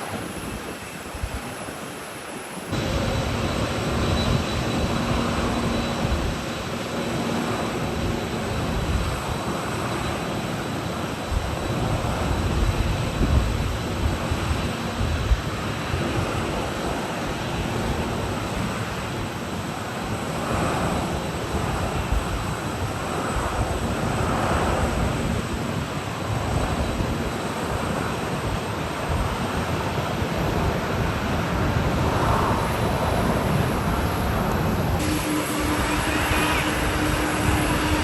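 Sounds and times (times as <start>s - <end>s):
airliner jet noise landing: 0.0s - 38.0s
gusty wind on microphone: 0.0s - 38.0s.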